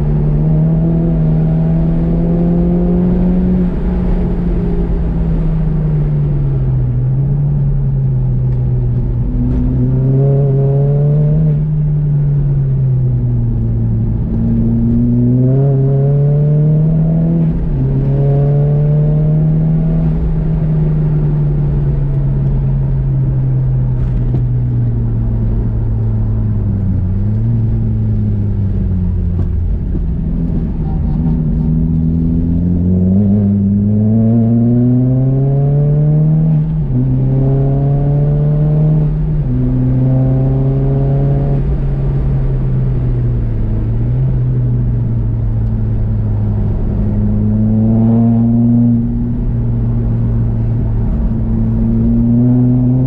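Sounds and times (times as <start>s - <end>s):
car engine accelerating and slowing: 0.0s - 53.0s.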